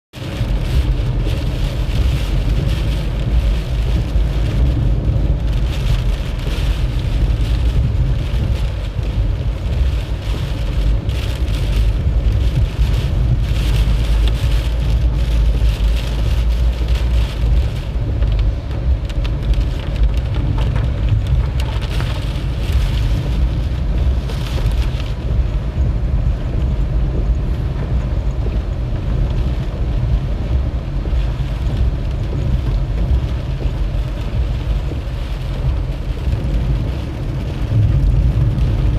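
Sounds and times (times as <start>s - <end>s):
vehicle road noise rumble: 0.1s - 38.9s.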